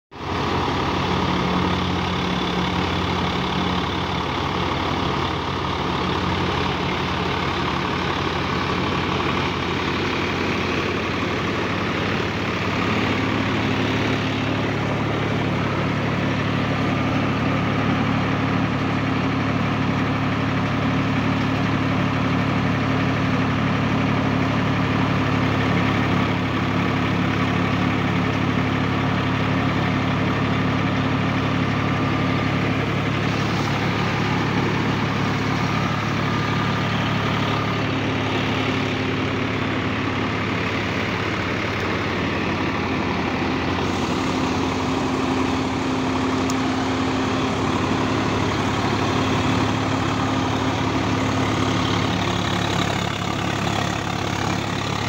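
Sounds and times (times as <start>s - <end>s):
tractor diesel engine running: 0.1s - 55.0s.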